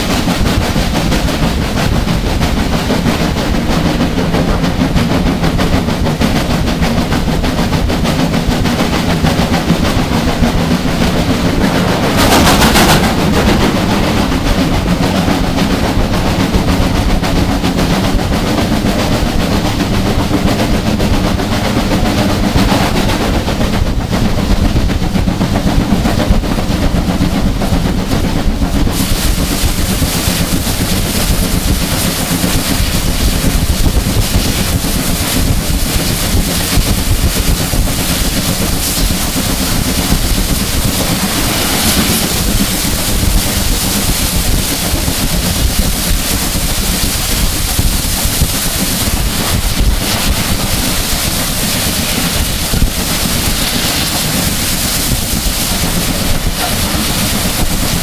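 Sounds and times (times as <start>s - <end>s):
steam locomotive exhaust and rail noise: 0.0s - 58.0s
wind buffeting microphone: 0.0s - 58.0s.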